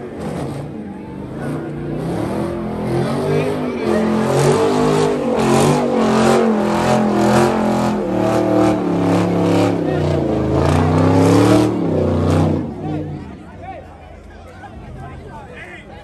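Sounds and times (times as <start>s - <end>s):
car engine revving hard: 0.0s - 13.2s
tires spinning: 0.0s - 15.5s
crowd voices: 0.0s - 16.0s.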